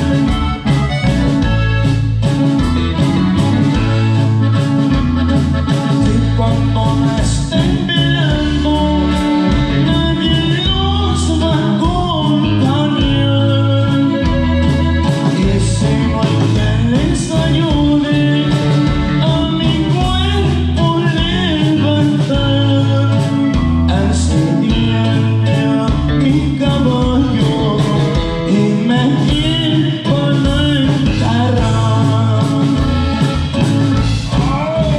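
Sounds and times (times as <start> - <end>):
acoustic guitar: 0.0 - 34.9
drum kit: 0.0 - 34.9
electric bass: 0.0 - 34.9
person singing: 5.9 - 34.9.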